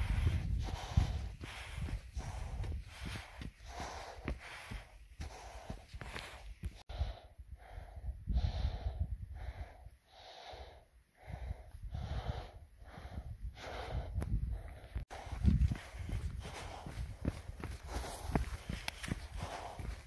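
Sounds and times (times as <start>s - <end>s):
man breathing heavily through mask: 0.0s - 20.0s.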